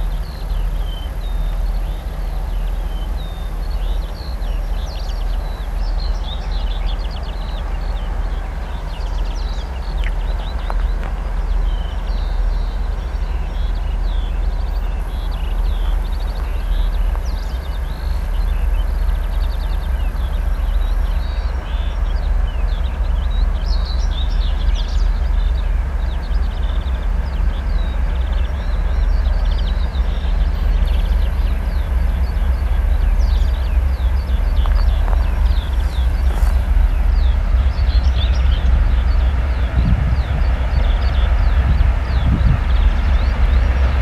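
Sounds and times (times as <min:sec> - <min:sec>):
birds chirping: 0:00.0 - 0:44.0
diesel locomotive engines rumbling: 0:00.0 - 0:44.0.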